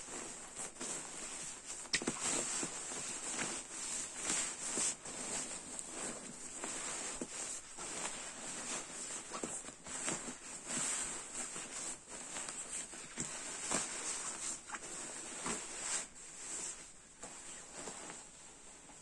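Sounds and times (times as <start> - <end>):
synthetic fabric rustling: 0.0 - 19.0.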